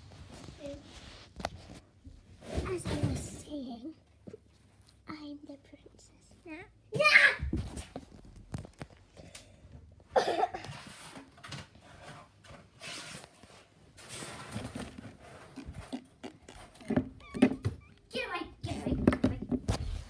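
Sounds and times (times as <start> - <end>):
plastic toys rustling and handled: 0.0 - 20.0.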